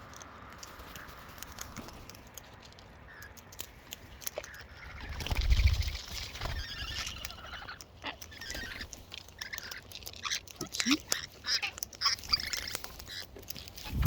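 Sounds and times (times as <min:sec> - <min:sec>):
high chattering bird calls: 0:00.0 - 0:14.0.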